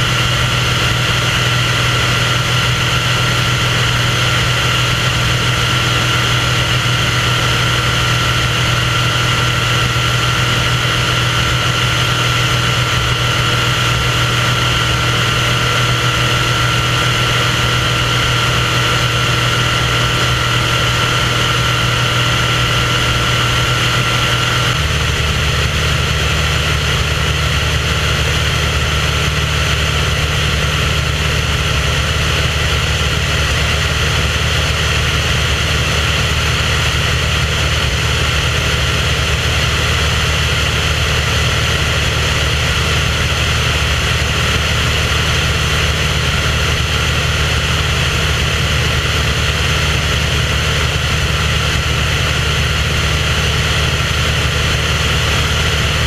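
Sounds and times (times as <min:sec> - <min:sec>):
propeller aircraft engine drone: 0:00.0 - 0:56.0.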